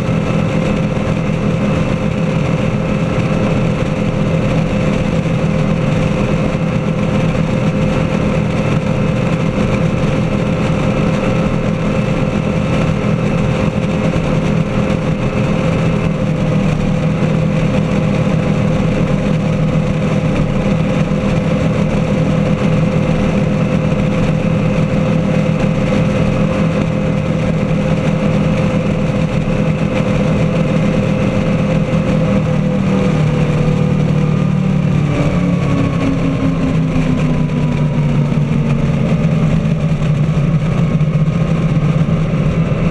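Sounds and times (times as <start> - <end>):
powerboat engines running hard: 0.0 - 42.9
rush of churning wake: 0.0 - 42.9.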